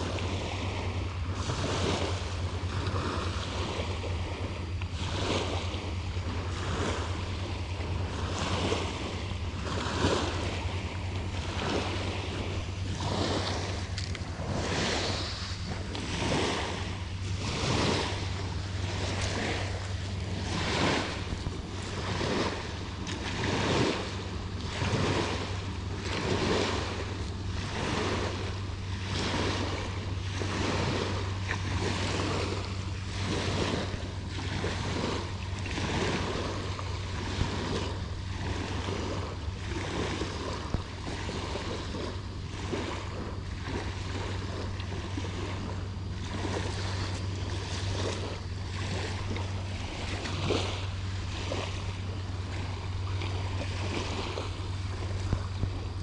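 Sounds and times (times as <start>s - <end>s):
small waves washing onto beach: 0.0s - 56.0s
steady low hum: 0.0s - 56.0s.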